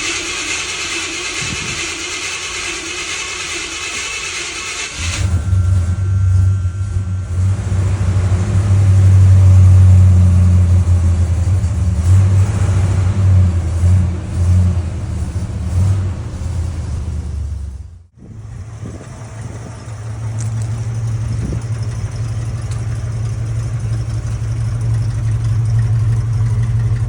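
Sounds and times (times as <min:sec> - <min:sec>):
car engine cold start and idle: 0:00.0 - 0:27.0.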